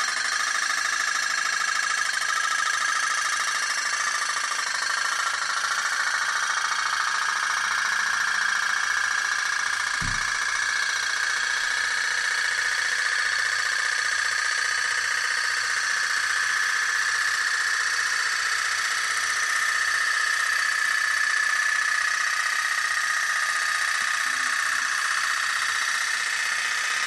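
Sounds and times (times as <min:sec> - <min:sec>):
toy steam boat buzzing: 0:00.0 - 0:27.0.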